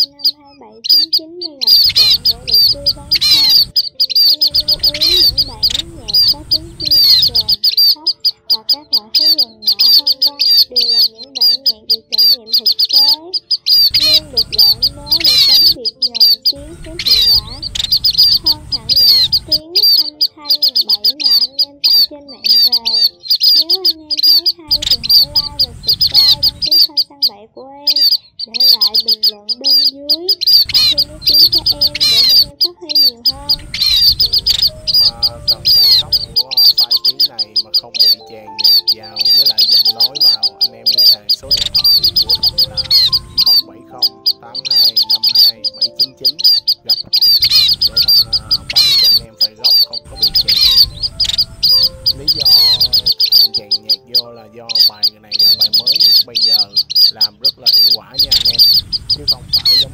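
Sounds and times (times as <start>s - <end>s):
rapid high bird chirps: 0.0s - 59.9s.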